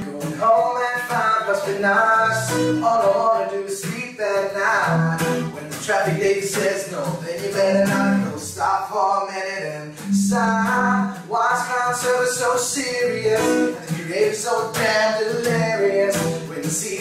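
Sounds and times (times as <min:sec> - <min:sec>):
acoustic guitar: 0:00.0 - 0:17.0
man singing: 0:00.0 - 0:17.0.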